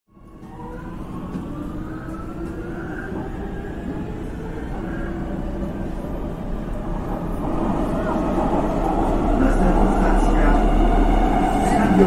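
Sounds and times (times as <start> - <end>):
subway train rumble: 0.1 - 12.0.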